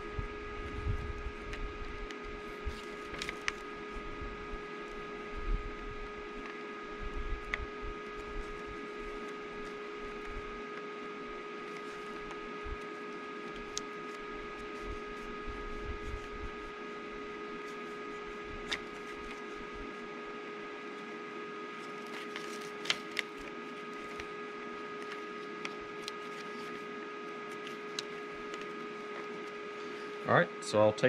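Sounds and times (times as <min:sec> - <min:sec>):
steady hum of held tones: 0:00.0 - 0:31.0.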